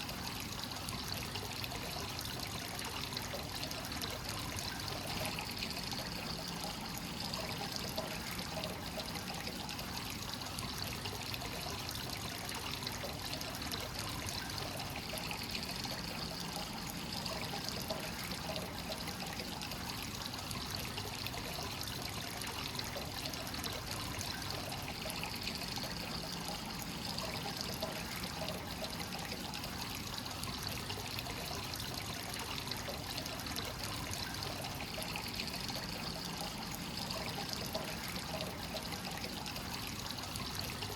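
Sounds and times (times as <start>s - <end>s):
water pouring into a bath: 0.0s - 40.9s.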